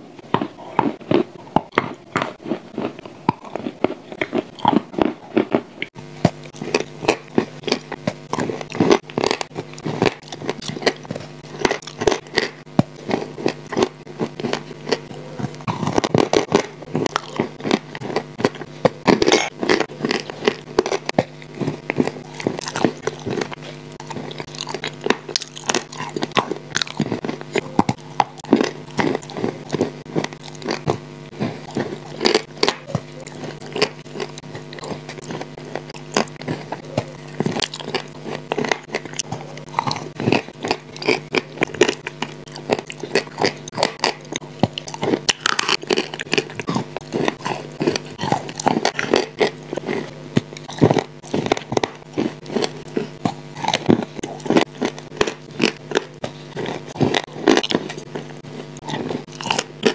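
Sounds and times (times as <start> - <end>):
chewing and crunching cookies: 0.0 - 59.9
steady low hum: 0.0 - 59.9
wet mouth sounds: 0.0 - 59.9.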